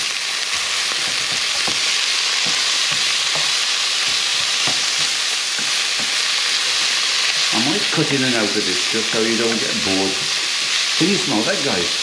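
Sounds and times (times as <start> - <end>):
meat and onions sizzling in a pan: 0.0 - 12.0
wooden spatula scraping a pan: 0.5 - 11.1.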